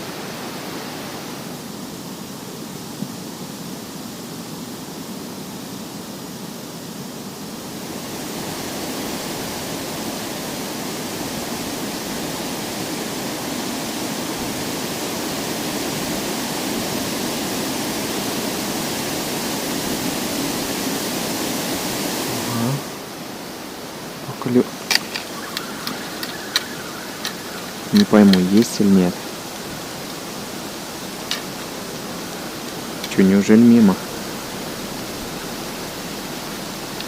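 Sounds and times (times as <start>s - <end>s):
wind noise on microphone: 5.1s - 37.0s.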